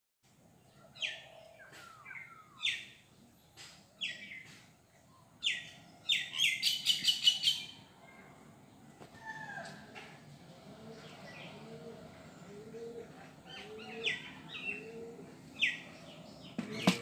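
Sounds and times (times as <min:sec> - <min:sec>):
birds chirping: 0:00.4 - 0:17.0.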